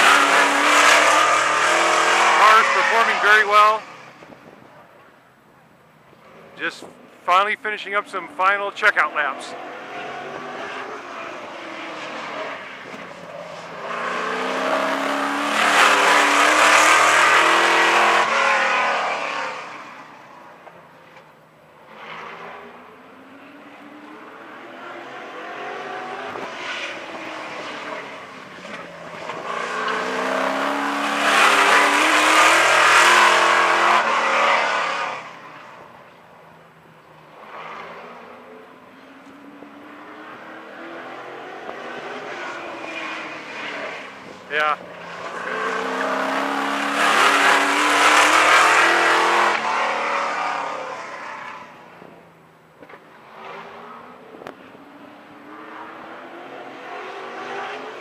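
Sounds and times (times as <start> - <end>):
race car engine passing by: 0.0 - 4.4, 7.3 - 20.5, 21.9 - 35.9, 37.3 - 52.2.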